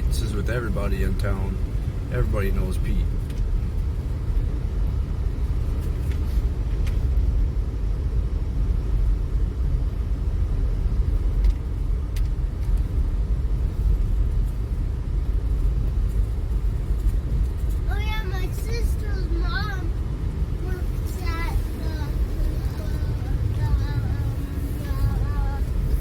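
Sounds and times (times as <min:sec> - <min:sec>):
vehicle engine and tyres rumble: 0:00.0 - 0:26.0.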